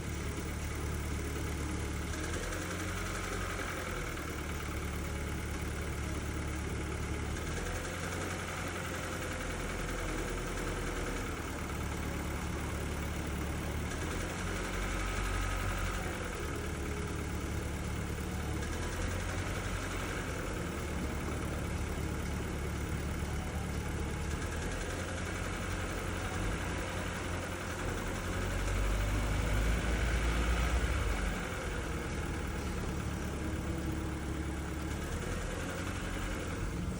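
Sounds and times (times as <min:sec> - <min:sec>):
car engine idling and revving: 0:00.0 - 0:36.9
engine knock: 0:00.0 - 0:36.9.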